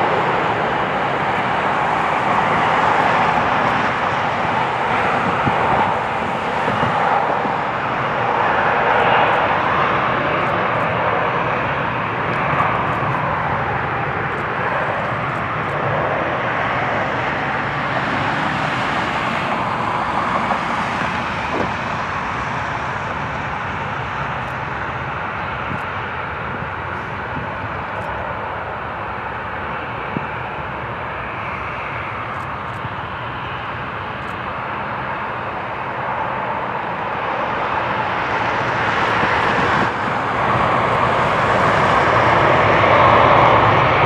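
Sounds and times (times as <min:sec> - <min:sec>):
jet engine rushing: 0:00.0 - 0:44.0.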